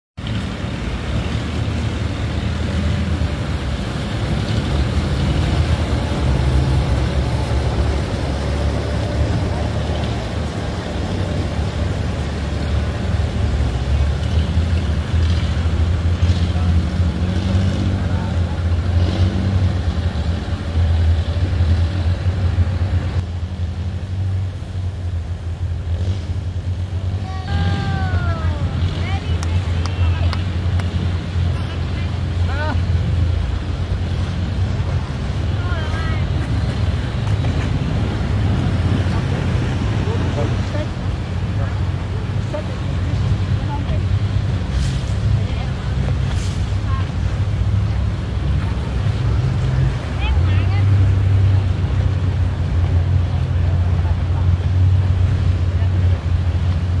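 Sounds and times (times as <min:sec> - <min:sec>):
wind: 0:00.1 - 0:57.0
outboard engines droning: 0:00.2 - 0:57.0
rushing water: 0:00.2 - 0:57.0.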